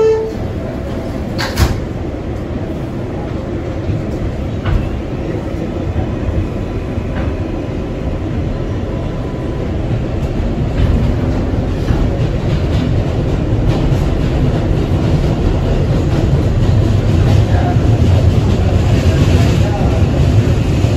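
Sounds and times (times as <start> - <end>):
subway car rumbling: 0.0 - 20.9.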